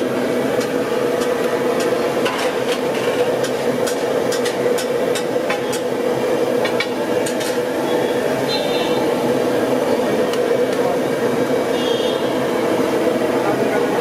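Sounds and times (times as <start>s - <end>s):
droning background din: 0.0s - 14.0s.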